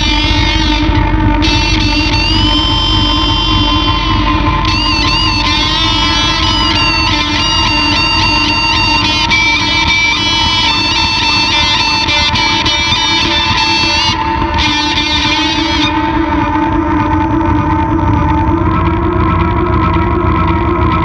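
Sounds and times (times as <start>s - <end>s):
fuzzed electric guitar drone: 0.0s - 21.0s
high guitar notes with delay echoes: 0.0s - 21.0s.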